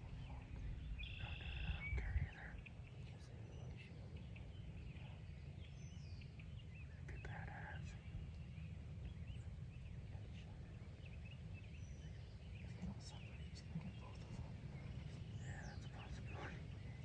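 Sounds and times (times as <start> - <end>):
low rumble of wind: 0.0 - 17.0
small birds chirping: 0.0 - 17.0.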